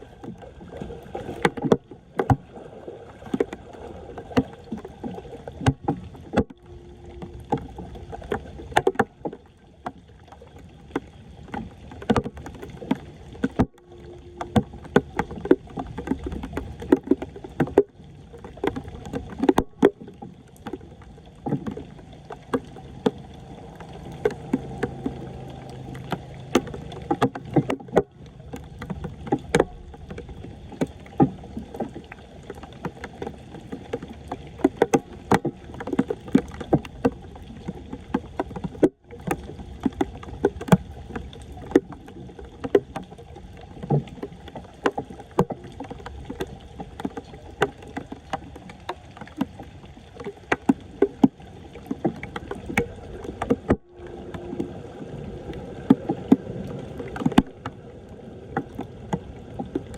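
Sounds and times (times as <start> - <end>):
steady wash of water: 0.0 - 59.9
water splashing: 0.0 - 59.9.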